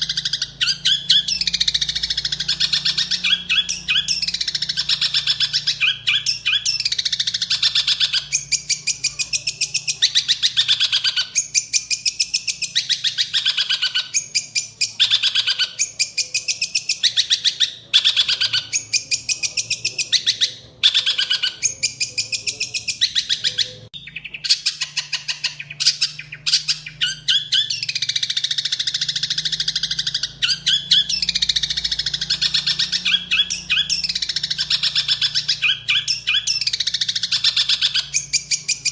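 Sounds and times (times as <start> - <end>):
bird harsh chattering song: 0.0 - 38.9
sparrow calls: 0.0 - 38.9.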